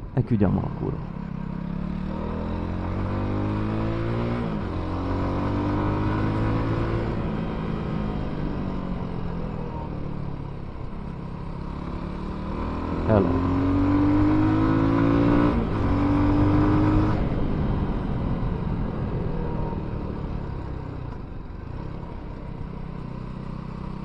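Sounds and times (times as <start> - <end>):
motorcycle engine accelerating: 0.7 - 24.0.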